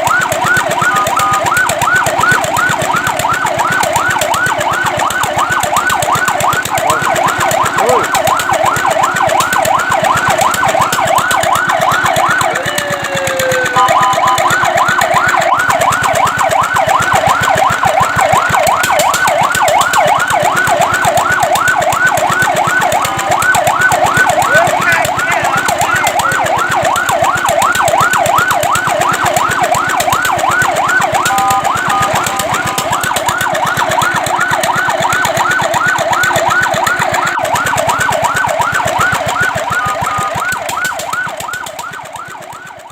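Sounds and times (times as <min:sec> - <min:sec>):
fire truck siren yelping: 0:00.0 - 0:42.9.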